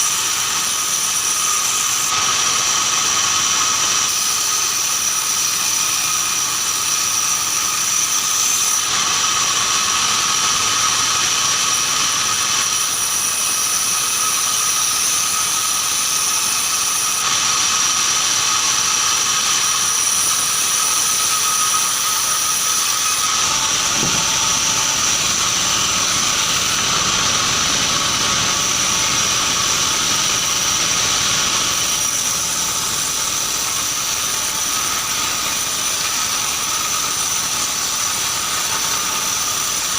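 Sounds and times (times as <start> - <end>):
band saw sawing wood: 0.0 - 39.9.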